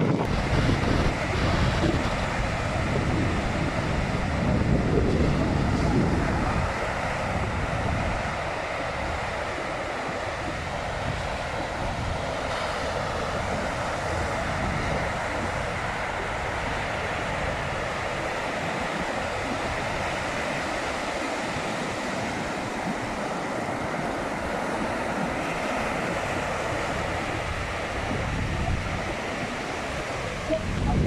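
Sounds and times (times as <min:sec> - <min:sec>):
sea surf washing ashore: 0:00.0 - 0:31.0
wind buffeting microphone: 0:00.0 - 0:31.0.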